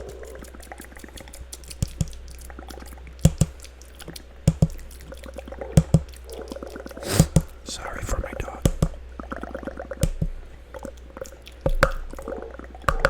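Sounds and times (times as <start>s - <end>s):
wet mouth clicks: 0.0s - 13.0s.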